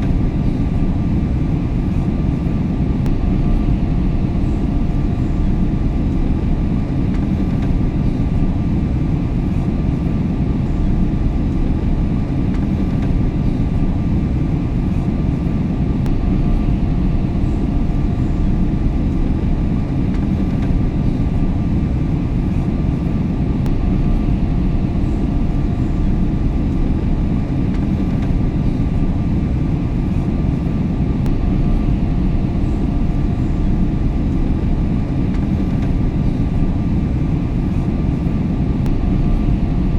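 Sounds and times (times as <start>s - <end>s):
aeroplane engine and airflow rumble: 0.0s - 39.9s
faint steady hums: 0.0s - 39.9s.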